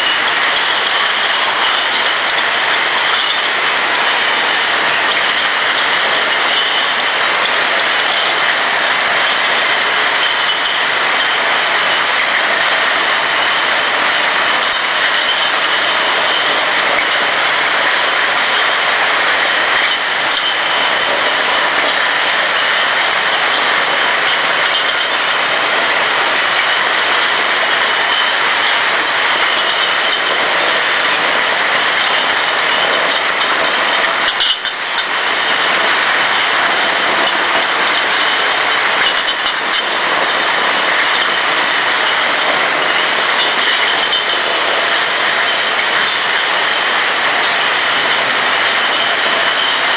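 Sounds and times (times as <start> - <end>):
bottle washing machine running: 0.0 - 49.9.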